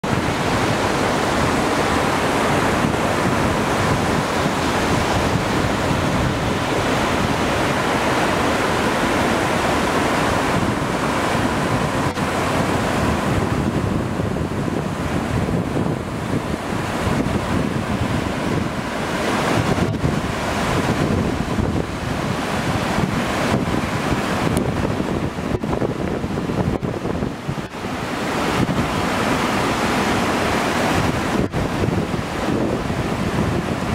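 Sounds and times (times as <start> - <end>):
waterfall and river rushing: 0.0 - 33.9
wind buffeting microphone: 0.0 - 33.9.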